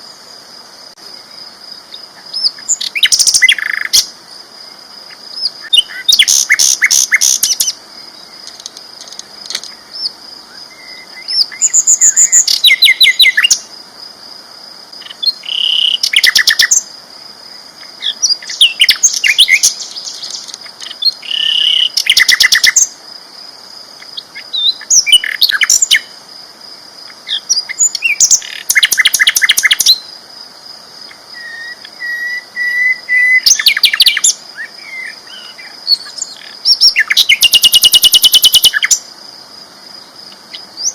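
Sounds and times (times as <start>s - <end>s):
flycatcher singing: 1.0s - 4.1s, 5.0s - 13.7s, 15.0s - 16.9s, 17.8s - 23.0s, 24.0s - 26.2s, 27.1s - 30.1s, 31.0s - 39.1s, 40.0s - 40.9s.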